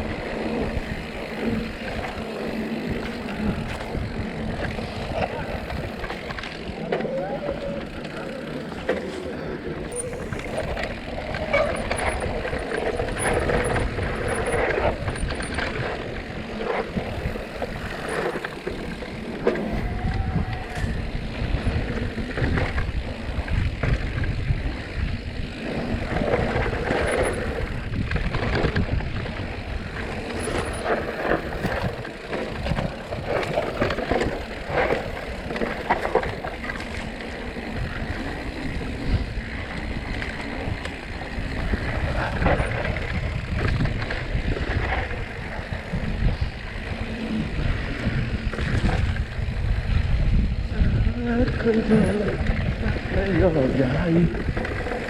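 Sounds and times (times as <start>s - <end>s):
bike clicks and rattles: 0.0s - 55.0s
tyres rumbling over dirt and rock: 0.0s - 55.0s.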